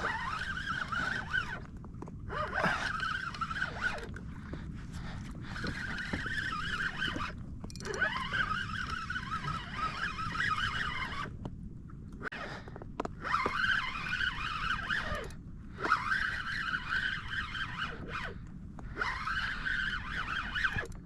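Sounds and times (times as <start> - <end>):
fishing reel gears whining: 0.0 - 4.3, 5.4 - 11.4, 13.2 - 21.0.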